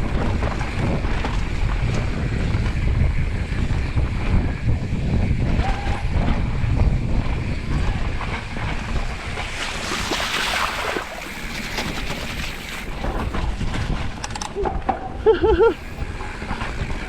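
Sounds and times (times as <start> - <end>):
bike rumbling on dirt trail: 0.0 - 17.0
wind buffeting microphone: 0.0 - 17.0.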